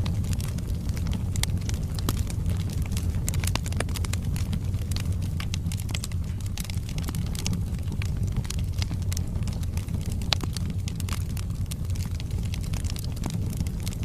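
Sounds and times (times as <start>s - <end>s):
logs crackling and popping: 0.0s - 14.0s
low rumble of flames: 0.0s - 14.0s.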